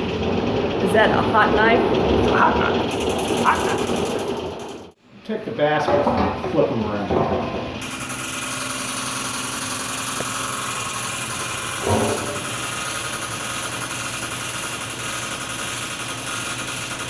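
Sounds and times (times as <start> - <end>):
honey extractor spinning: 0.0 - 5.0, 7.8 - 17.0.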